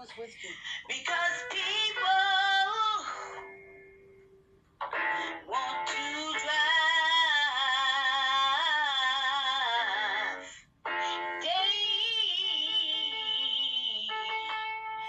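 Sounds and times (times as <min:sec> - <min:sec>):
person singing slow song: 0:00.8 - 0:03.8, 0:05.0 - 0:15.0.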